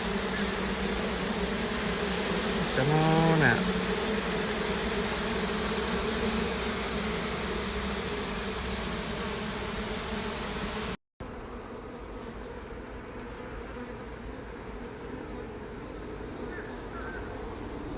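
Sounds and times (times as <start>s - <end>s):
honeybees buzzing: 0.0s - 17.9s.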